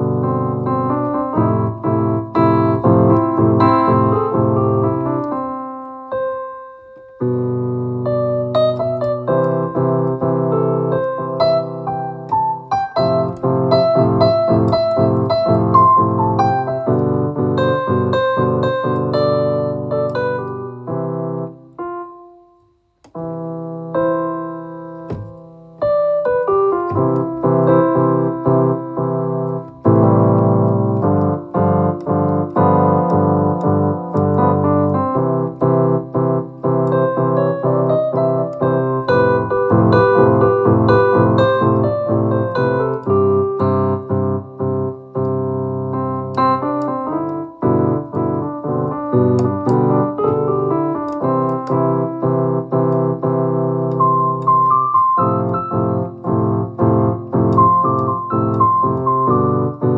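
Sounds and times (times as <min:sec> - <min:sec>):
electronic keyboard piano playing: 0:00.0 - 0:59.9.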